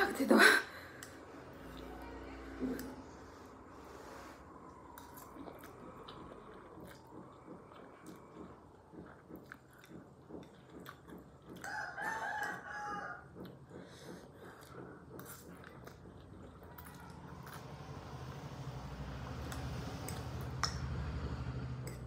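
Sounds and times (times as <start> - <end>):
chewing and slurping noodles: 2.7 - 22.0.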